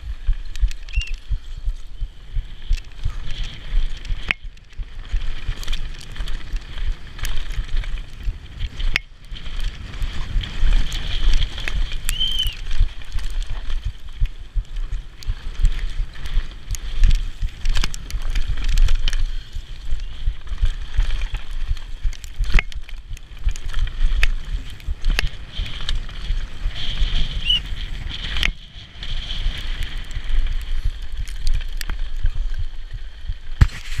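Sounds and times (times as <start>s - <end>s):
bike tyres rattling over dirt: 0.0s - 34.0s
wind rushing over microphone: 0.0s - 34.0s.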